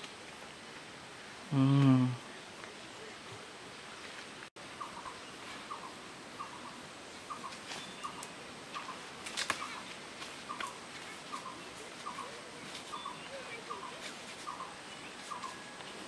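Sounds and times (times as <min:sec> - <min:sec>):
leaves crackling and rustling: 0:00.0 - 0:01.5, 0:02.2 - 0:16.0.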